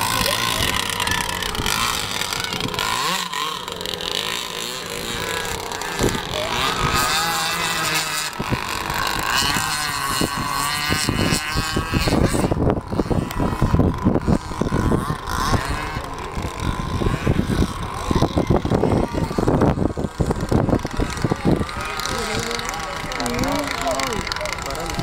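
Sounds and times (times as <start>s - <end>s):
model boat motor whining: 0.0s - 25.0s
wind buffeting microphone: 0.0s - 25.0s.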